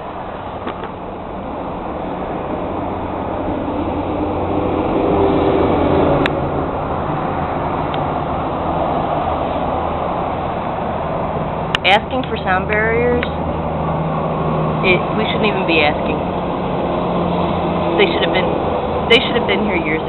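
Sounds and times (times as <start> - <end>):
highway traffic rushing: 0.0 - 20.0.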